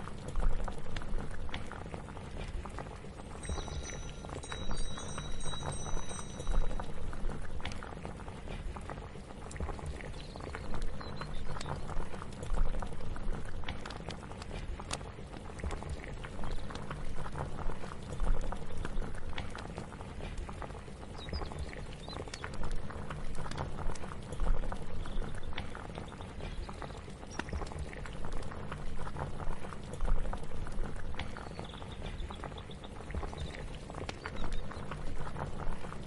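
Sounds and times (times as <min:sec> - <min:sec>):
liquid boiling and bubbling: 0:00.0 - 0:36.0.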